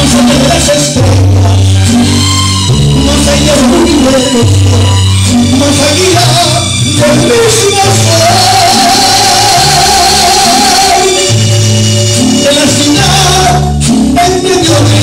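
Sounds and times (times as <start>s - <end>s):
instrumental accompaniment with bass: 0.0s - 15.0s
man singing into a microphone: 0.0s - 15.0s.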